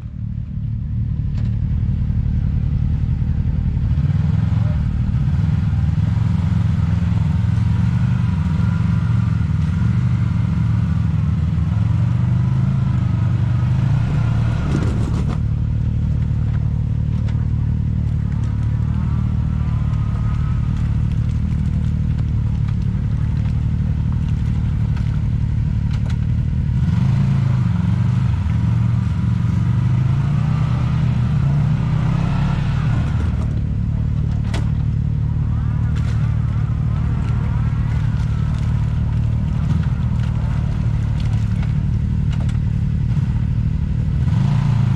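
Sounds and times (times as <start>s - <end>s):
off-road vehicle engine revving: 0.0s - 44.9s.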